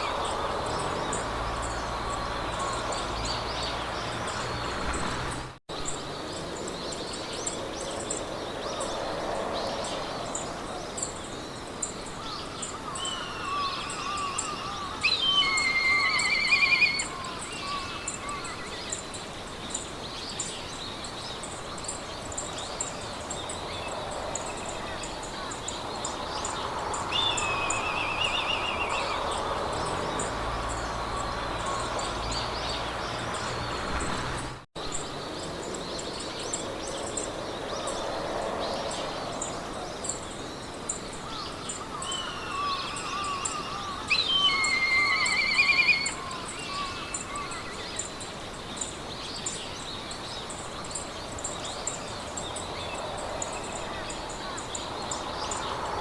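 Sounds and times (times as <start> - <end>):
songbirds singing: 0.0 - 56.0
wind through grass: 0.0 - 56.0.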